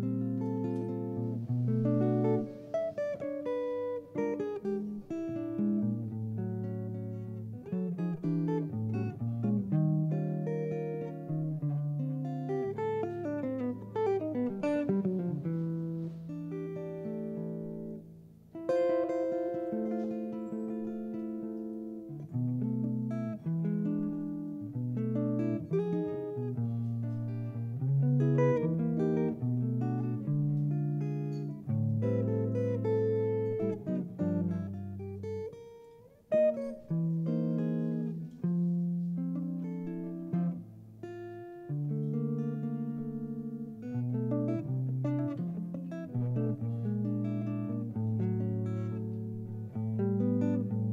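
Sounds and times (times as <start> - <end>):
solo jazz guitar ballad: 0.0 - 50.9.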